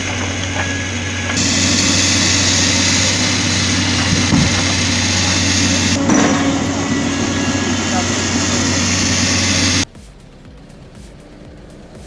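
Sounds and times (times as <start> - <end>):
truck diesel engine humming: 0.0 - 9.9
loud rushing noise: 0.0 - 10.4.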